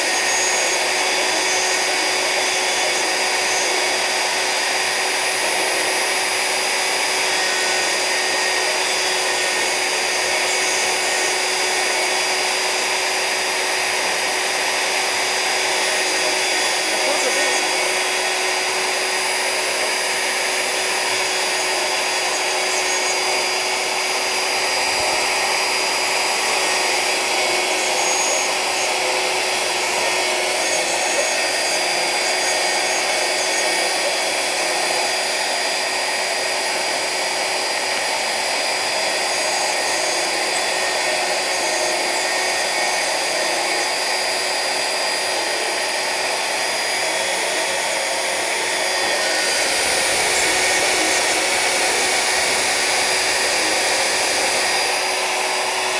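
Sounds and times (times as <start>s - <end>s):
router spindle whining: 0.0s - 55.9s.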